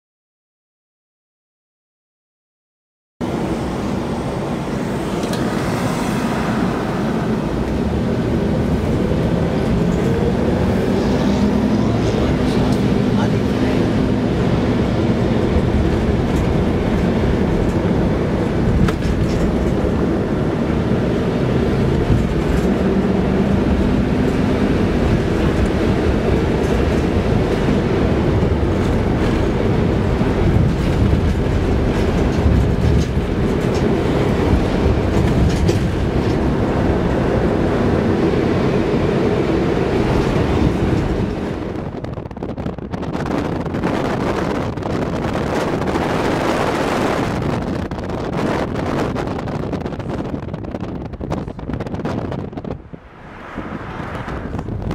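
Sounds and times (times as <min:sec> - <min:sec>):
car engine and tyre rumble: 0:03.2 - 0:54.9.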